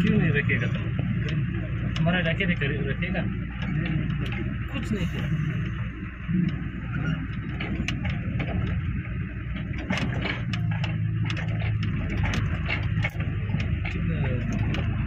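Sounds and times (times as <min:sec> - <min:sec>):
short knocks and rattles: 0:00.0 - 0:15.0
truck engine running: 0:00.0 - 0:15.0.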